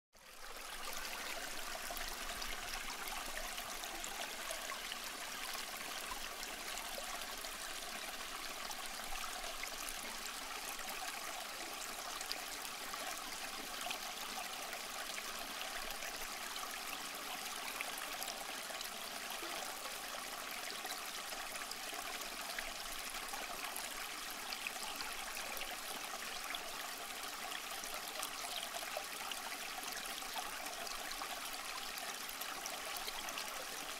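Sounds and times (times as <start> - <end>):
stream water flowing: 0.2 - 33.9.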